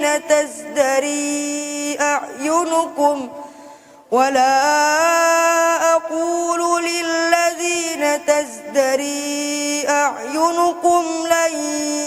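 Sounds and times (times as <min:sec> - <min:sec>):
person chanting melodic recitation: 0:00.0 - 0:03.5, 0:04.1 - 0:12.0.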